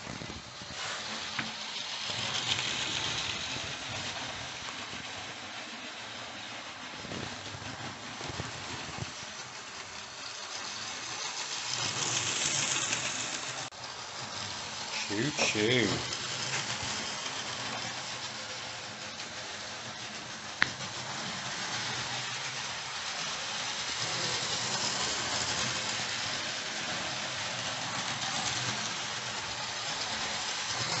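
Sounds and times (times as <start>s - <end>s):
model train motor whirring: 0.1s - 31.0s.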